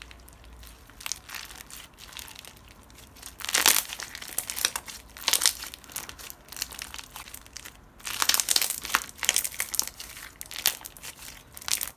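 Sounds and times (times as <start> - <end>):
crunchy slime crackling: 0.0 - 11.9.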